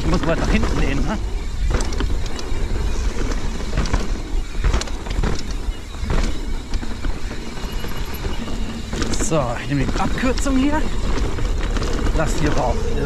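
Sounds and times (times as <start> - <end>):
bike clattering over bumps: 0.0 - 13.0
tyres rumbling over dirt: 0.0 - 13.0.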